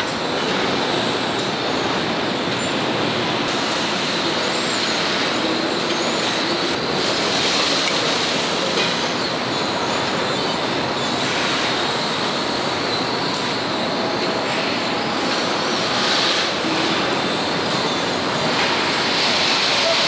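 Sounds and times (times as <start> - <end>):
assembly line hiss and rumble: 0.0 - 20.0.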